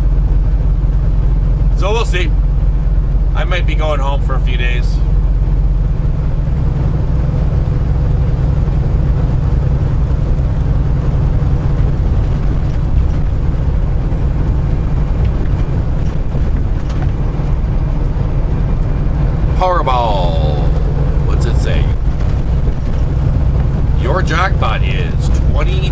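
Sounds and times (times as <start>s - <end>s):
road noise: 0.0s - 25.9s
truck engine drone: 0.0s - 25.9s.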